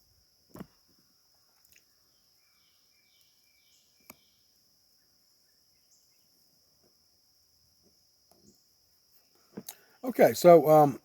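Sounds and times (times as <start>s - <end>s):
faint insect hum: 0.0s - 11.0s
faint chirps: 0.9s - 10.1s.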